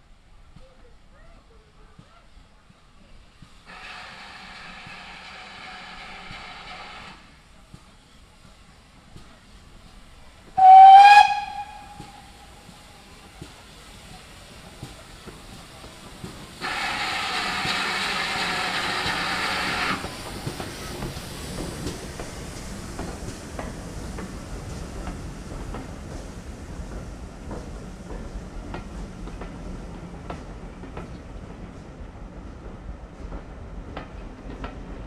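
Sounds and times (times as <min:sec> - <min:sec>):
loud steam hiss: 0:01.5 - 0:30.2.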